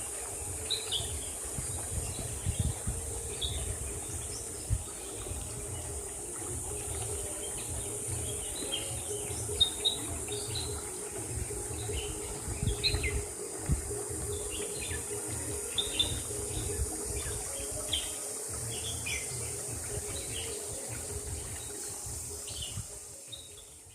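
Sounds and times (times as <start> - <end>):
birds chirping: 0.0 - 23.9
steady high-pitched hiss: 0.0 - 23.9.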